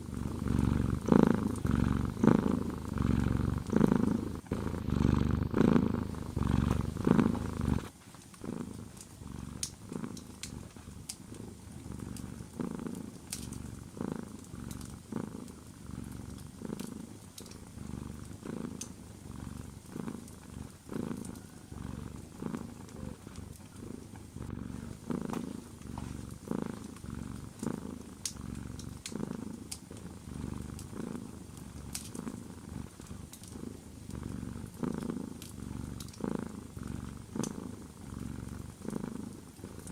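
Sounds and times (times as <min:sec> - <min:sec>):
fireplace fire crackling: 0:00.0 - 0:39.6
cat purring: 0:00.0 - 0:39.9.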